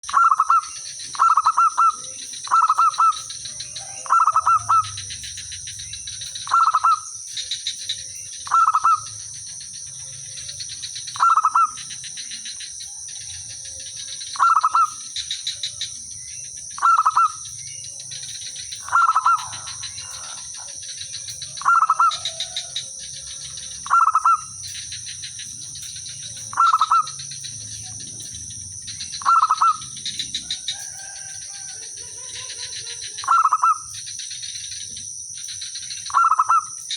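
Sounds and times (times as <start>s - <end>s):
dove cooing: 0.1s - 35.1s, 36.1s - 36.8s.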